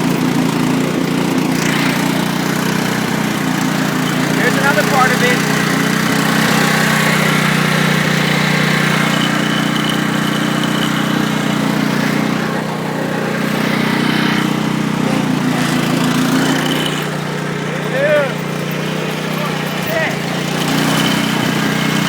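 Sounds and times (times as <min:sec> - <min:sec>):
riding lawn mower engine running: 0:00.0 - 0:22.0.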